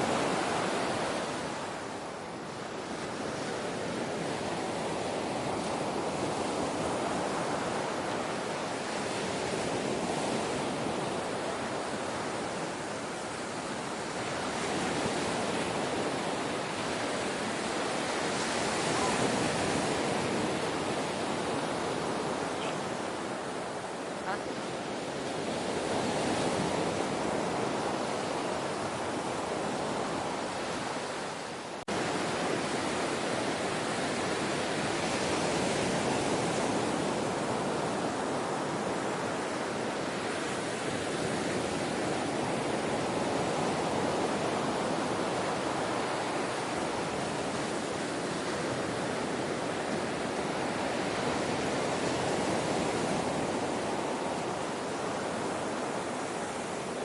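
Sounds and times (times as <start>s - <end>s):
ocean surf washing in: 0.0s - 57.0s.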